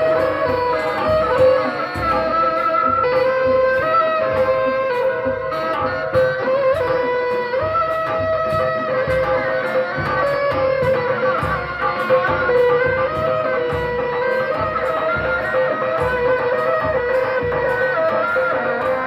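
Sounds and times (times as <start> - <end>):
melody of long held notes: 0.0 - 19.0
steady drum beat: 0.0 - 19.0.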